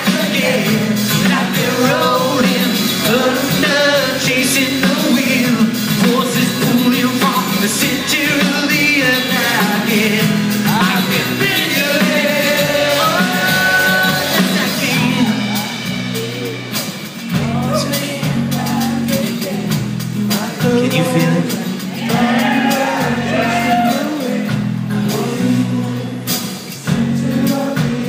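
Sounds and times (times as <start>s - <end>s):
live rock band playing: 0.0s - 28.0s
person singing: 0.0s - 28.0s.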